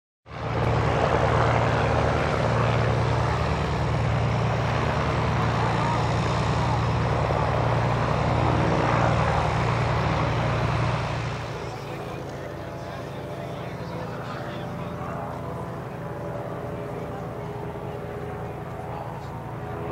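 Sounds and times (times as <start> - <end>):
propeller aircraft engine drone: 0.3 - 19.9.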